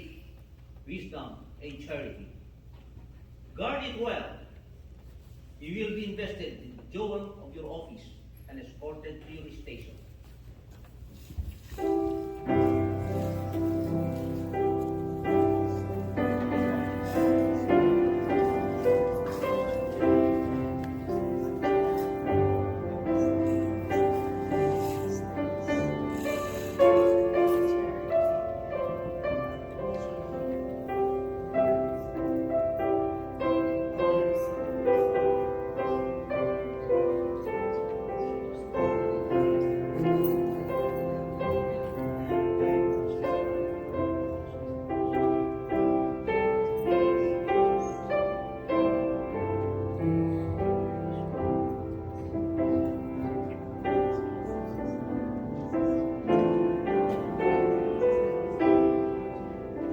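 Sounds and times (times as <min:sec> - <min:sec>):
slow gentle piano music: 0:11.2 - 0:59.9.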